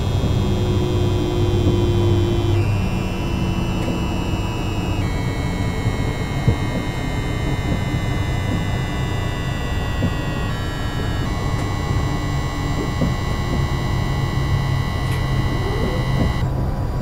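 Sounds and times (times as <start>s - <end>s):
high electronic inverter tones: 0.0s - 16.5s
steady electronic tone: 0.0s - 16.5s
low hum: 0.0s - 17.0s.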